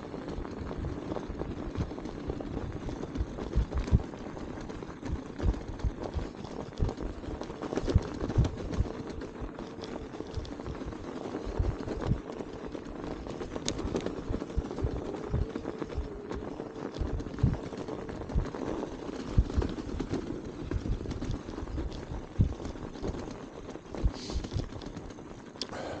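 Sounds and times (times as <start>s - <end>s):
electric bike motor hum: 0.0s - 26.0s
tyres crunching on snow: 0.0s - 26.0s.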